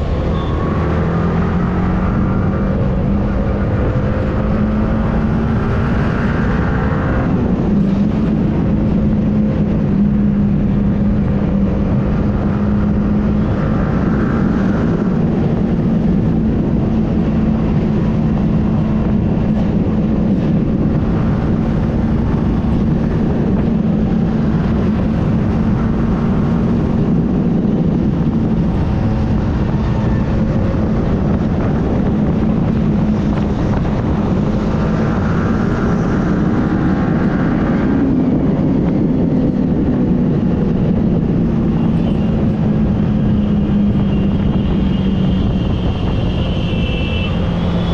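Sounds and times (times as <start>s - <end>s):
motorcycle engine cruising: 0.0s - 47.9s
wind rushing past microphone: 0.0s - 47.9s.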